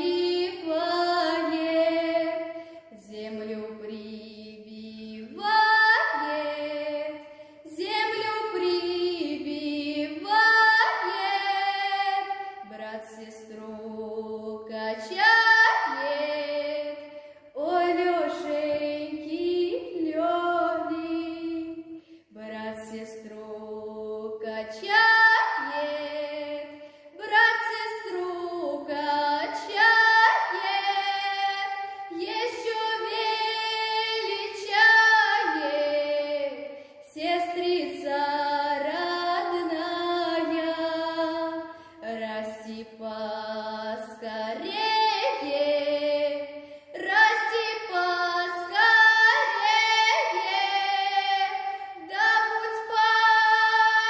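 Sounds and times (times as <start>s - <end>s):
girl singing folk song: 0.0s - 54.0s.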